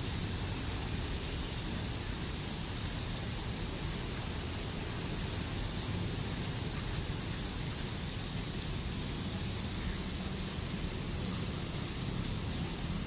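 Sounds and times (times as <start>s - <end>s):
fountain jets splashing into pool: 0.0s - 13.0s.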